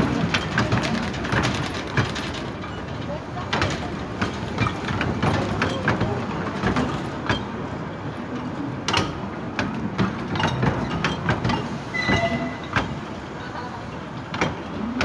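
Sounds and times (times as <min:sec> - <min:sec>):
carriages rattling: 0:00.0 - 0:15.0
clicks over rail joints: 0:00.0 - 0:15.0
train wheels rumbling on track: 0:00.0 - 0:15.0.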